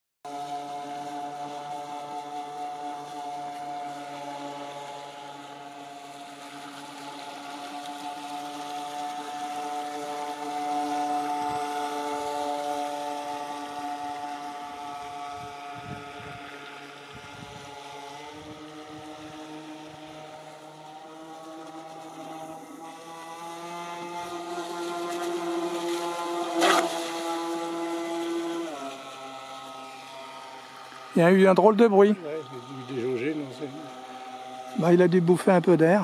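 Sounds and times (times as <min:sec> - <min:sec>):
model speedboat motor whining: 0:00.3 - 0:36.0.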